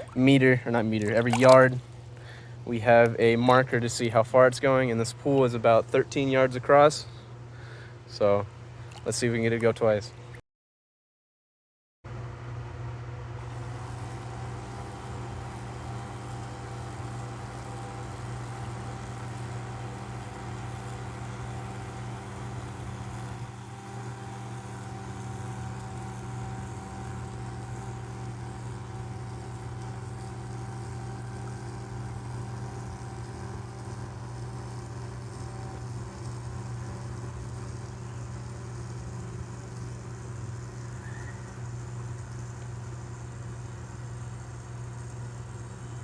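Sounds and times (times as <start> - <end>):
electric motors humming: 0.0 - 8.4, 12.1 - 46.0.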